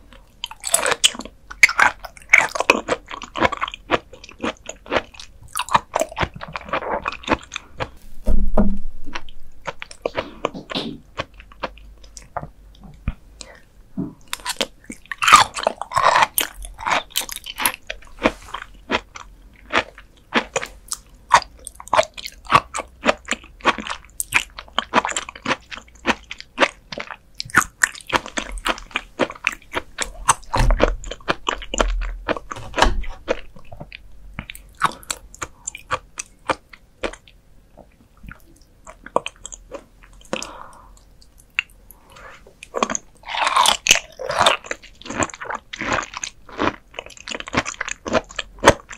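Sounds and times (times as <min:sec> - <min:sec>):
wet crunchy chewing: 0:00.0 - 0:08.0, 0:14.2 - 0:48.9.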